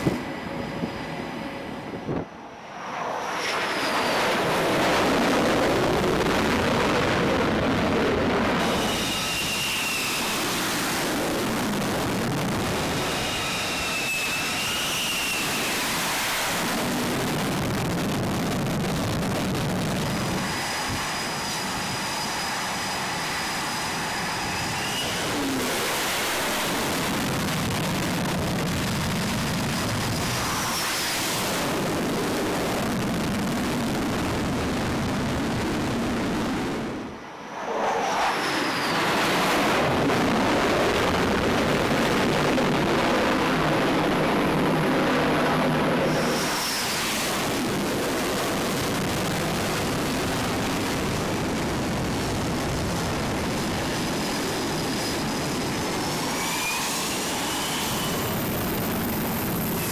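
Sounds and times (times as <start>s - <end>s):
high engine whine: 0.0s - 59.9s
jet engines roaring: 0.0s - 59.9s.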